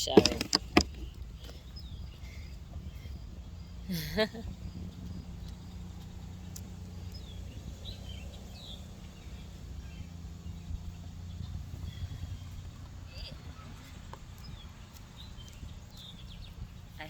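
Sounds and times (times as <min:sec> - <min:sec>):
high bird chirps: 0:00.0 - 0:17.0
low outdoor rumble: 0:00.0 - 0:17.0.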